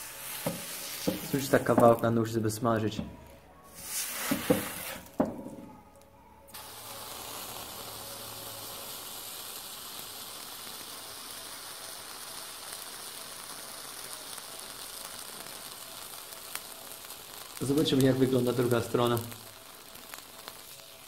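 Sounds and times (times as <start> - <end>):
cheese sizzling on hot knife: 0.0 - 2.9, 3.7 - 5.8, 6.5 - 21.0.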